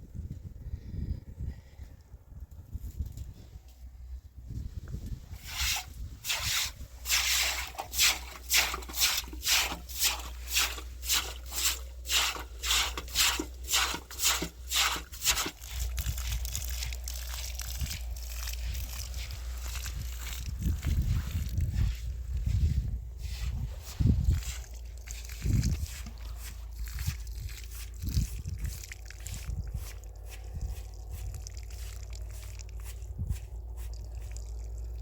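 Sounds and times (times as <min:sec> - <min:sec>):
hand scrubbing strokes: 0:05.3 - 0:34.7.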